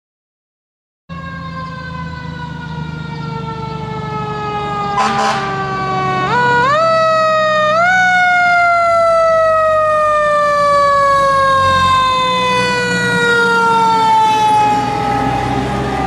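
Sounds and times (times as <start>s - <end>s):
mechanical siren wailing: 1.1s - 16.0s
truck engine rumbling: 1.1s - 16.0s.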